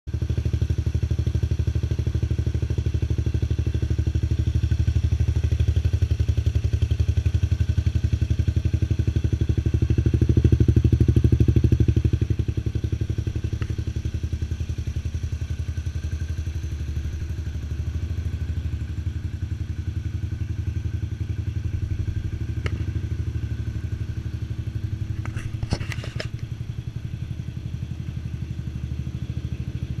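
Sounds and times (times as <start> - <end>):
scooter engine idling: 0.1 - 30.0.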